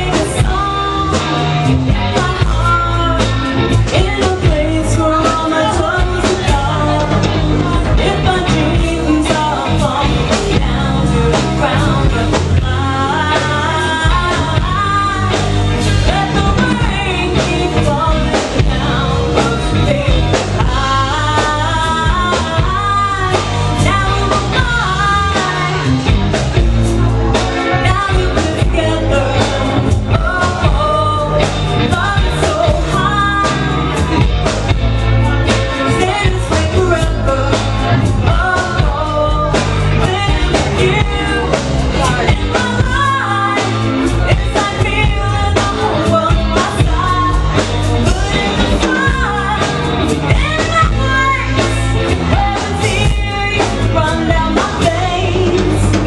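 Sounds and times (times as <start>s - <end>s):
bass guitar: 0.0s - 56.0s
drum kit: 0.0s - 56.0s
electric guitar: 0.0s - 56.0s
woman singing into a microphone: 0.0s - 56.0s.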